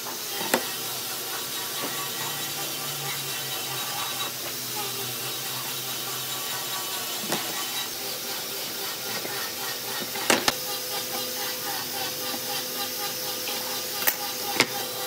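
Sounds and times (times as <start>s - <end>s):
workshop background hiss: 0.0s - 15.0s.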